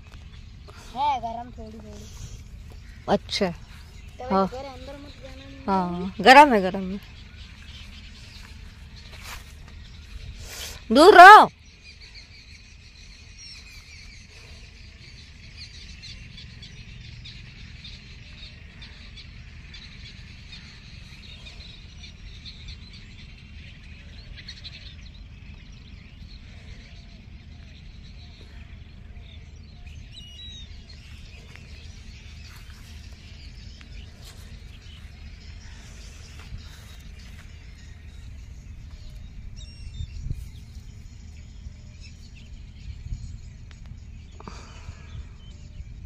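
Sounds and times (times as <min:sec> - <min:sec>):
low steady rumble: 0:00.0 - 0:46.0
small birds chirping: 0:00.0 - 0:46.0.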